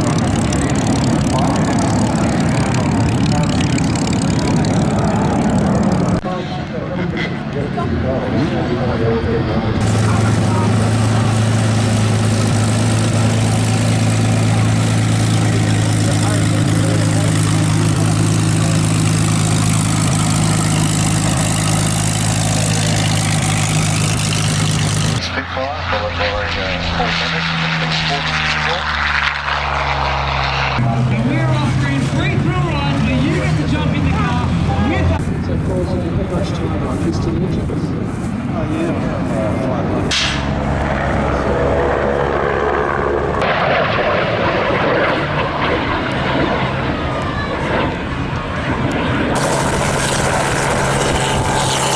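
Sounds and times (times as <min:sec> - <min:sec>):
broad rushing noise: 0:00.0 - 0:51.9
large engine deep hum: 0:00.0 - 0:51.9.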